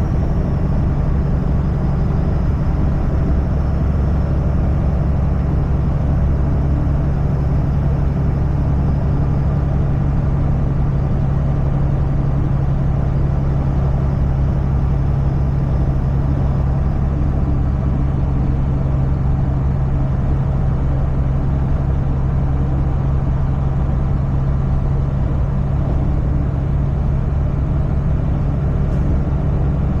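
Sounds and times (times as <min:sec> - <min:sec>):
road noise: 0:00.0 - 0:30.0
truck engine drone: 0:00.0 - 0:30.0.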